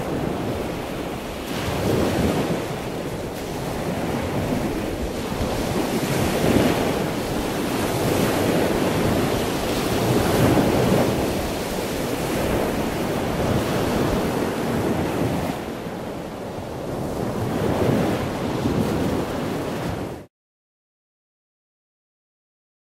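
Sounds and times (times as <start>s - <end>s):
waves washing: 0.0s - 20.3s.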